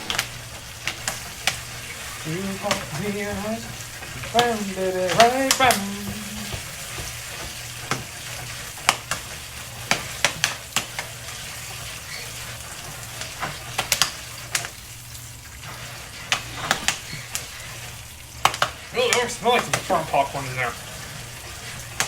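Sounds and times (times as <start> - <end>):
popcorn popping: 0.0 - 14.9, 18.4 - 22.0
pan sizzling: 0.0 - 22.0.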